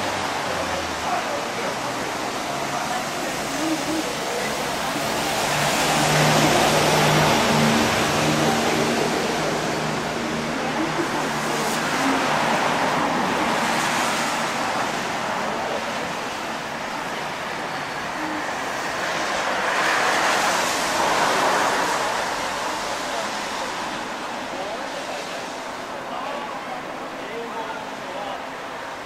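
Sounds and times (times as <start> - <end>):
rain: 0.0 - 29.0
tyres hissing on wet asphalt: 0.0 - 29.0.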